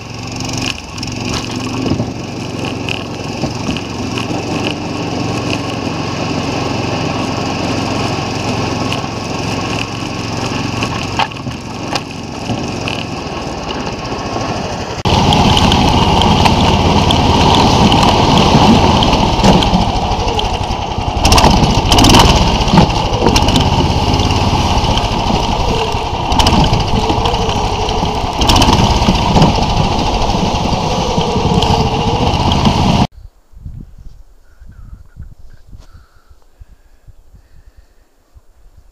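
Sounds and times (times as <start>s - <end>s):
small engine running: 0.0s - 33.1s
rattling clatter: 0.4s - 5.9s, 7.2s - 33.1s.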